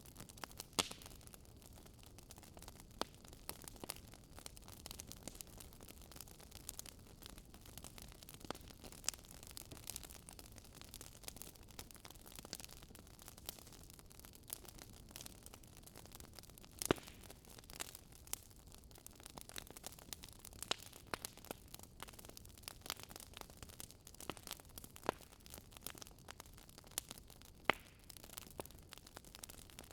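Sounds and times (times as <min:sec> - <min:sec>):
bonfire crackling and snapping: 0:00.0 - 0:29.9.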